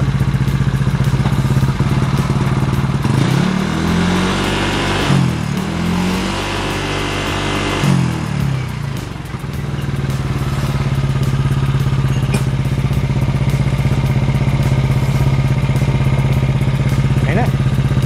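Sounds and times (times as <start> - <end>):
scooter engine revving and idling: 0.0 - 18.0.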